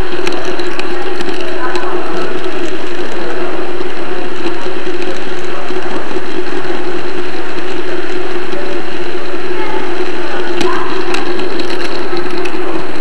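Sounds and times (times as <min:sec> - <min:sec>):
constant hum: 0:00.0 - 0:13.0
model train motor rattling: 0:00.0 - 0:13.0.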